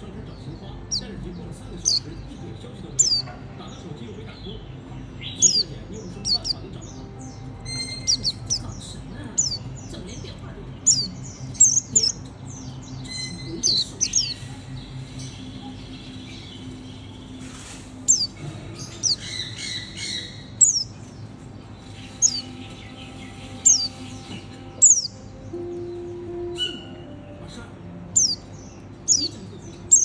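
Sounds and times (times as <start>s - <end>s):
bird twittering: 0.0s - 27.4s, 28.1s - 30.0s
bird chirping: 0.0s - 30.0s
steady low hum: 0.0s - 30.0s.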